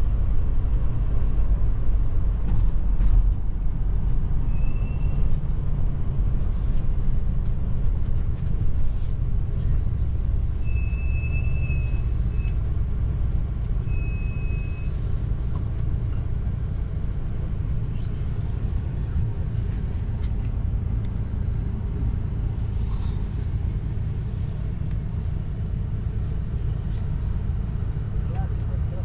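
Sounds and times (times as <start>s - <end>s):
road noise: 0.0s - 29.0s
vehicle engine rumble: 0.0s - 29.0s.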